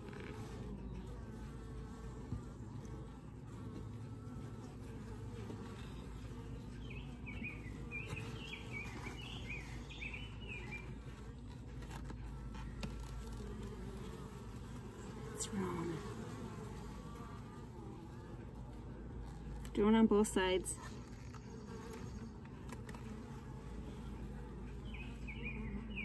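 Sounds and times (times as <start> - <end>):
honeybees humming: 0.0 - 26.0.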